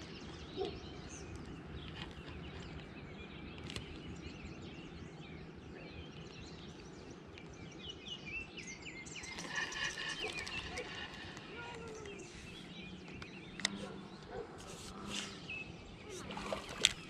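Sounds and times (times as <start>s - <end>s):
songbirds chirping and singing: 0.0s - 17.0s.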